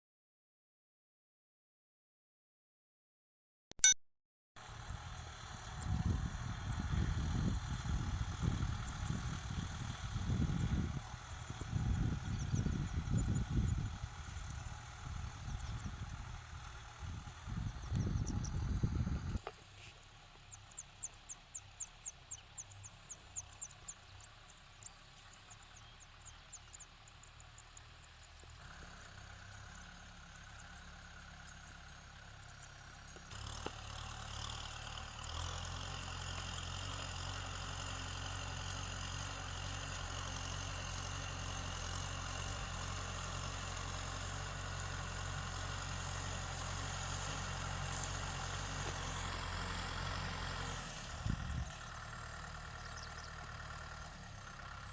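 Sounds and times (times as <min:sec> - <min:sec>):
tractor diesel engine droning: 0:04.6 - 0:54.9.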